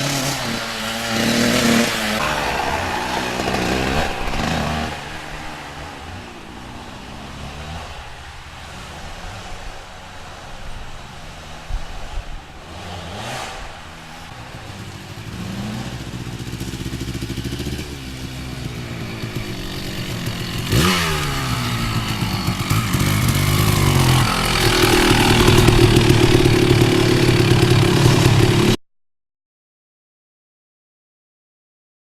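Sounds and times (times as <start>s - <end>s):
two-stroke motorcycle engine revving: 0.0s - 28.8s.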